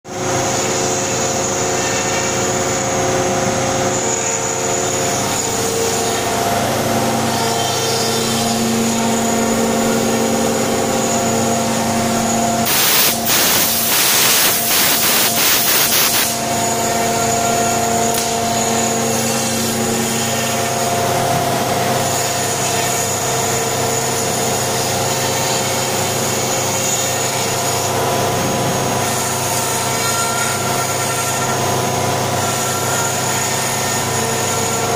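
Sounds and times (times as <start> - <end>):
router milling wood: 0.3 - 34.9.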